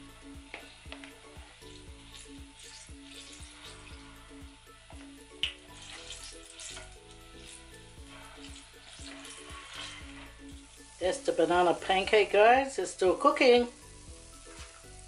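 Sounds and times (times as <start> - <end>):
background music with steady beat: 0.0 - 15.0
hot oil sizzling: 0.0 - 15.0.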